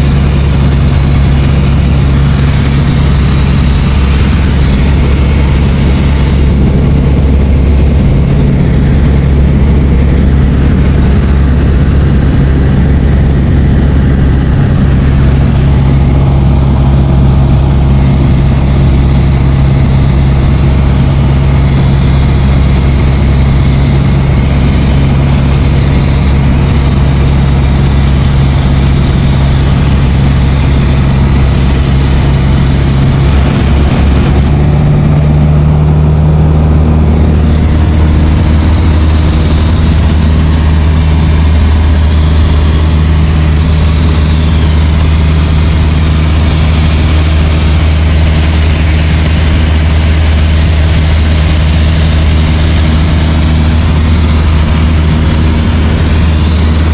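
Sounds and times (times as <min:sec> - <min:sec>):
propeller aircraft engine drone: 0:00.0 - 0:56.9.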